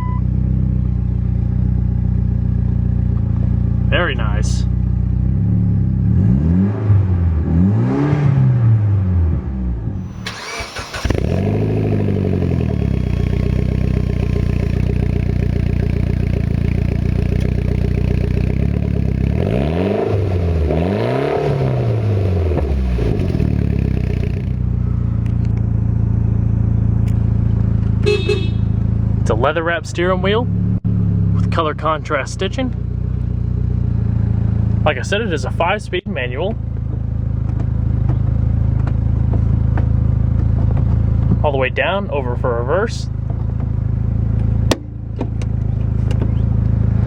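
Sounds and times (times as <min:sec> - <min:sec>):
car engine idling and revving: 0:00.0 - 0:47.0.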